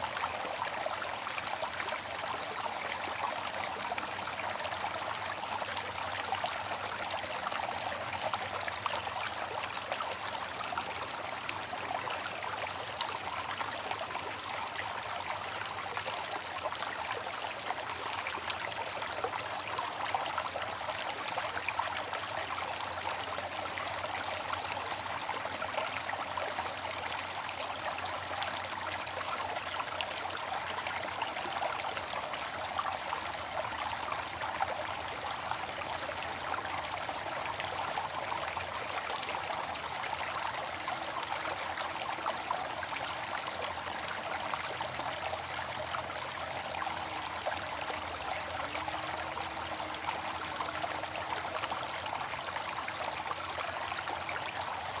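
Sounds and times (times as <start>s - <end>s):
water fountain splashing: 0.0s - 55.0s.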